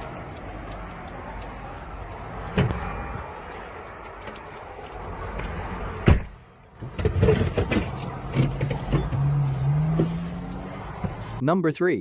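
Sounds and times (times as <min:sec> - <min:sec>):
car road noise: 0:00.0 - 0:11.4.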